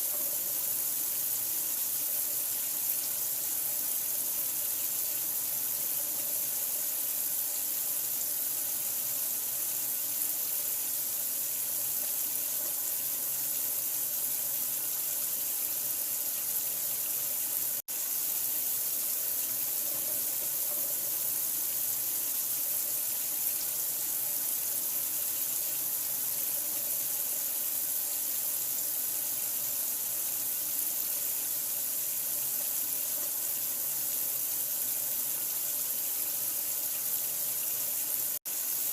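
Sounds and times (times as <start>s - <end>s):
running water hiss: 0.0s - 38.9s.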